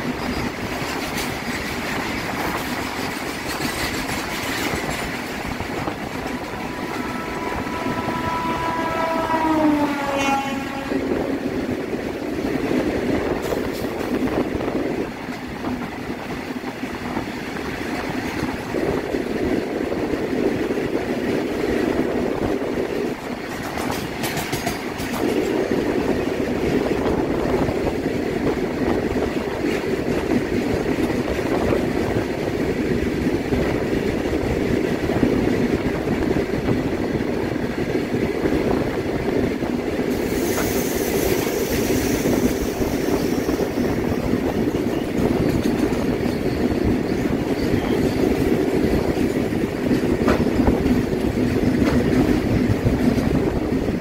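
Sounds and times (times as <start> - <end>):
rail clatter: 0.0 - 54.0
train wheels rumbling: 0.0 - 54.0.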